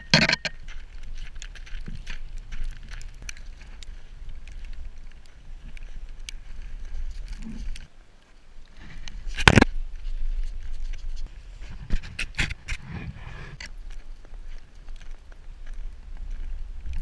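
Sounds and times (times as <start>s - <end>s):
footsteps crunching snow: 0.0s - 17.0s
low wind rumble: 0.0s - 17.0s.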